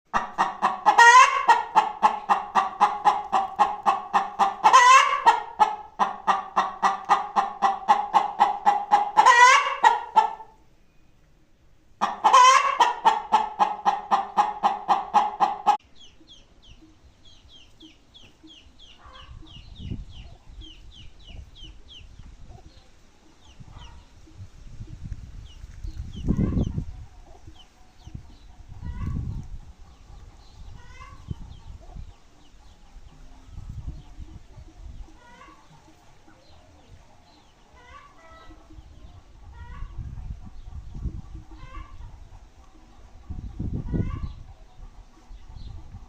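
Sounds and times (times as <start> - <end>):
hen cackling and squawking: 0.1 - 10.6, 12.0 - 17.0, 17.8 - 20.8, 26.2 - 46.0.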